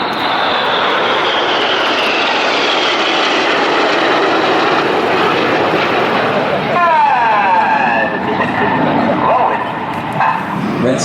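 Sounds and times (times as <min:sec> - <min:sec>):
jets roaring past: 0:00.0 - 0:11.0.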